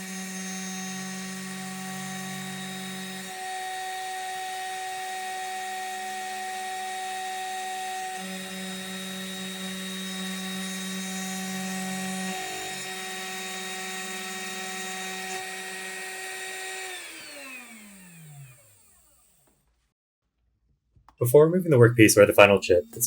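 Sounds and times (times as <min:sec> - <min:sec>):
mill spindle whining: 0:00.0 - 0:19.4.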